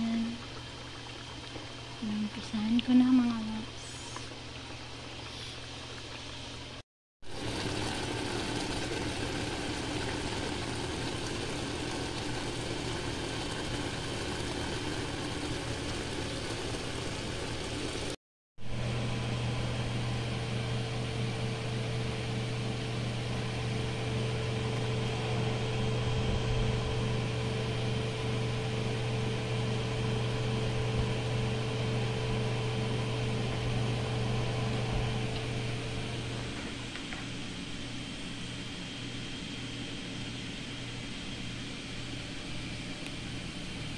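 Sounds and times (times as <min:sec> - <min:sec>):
oven humming: 0:07.3 - 0:43.9.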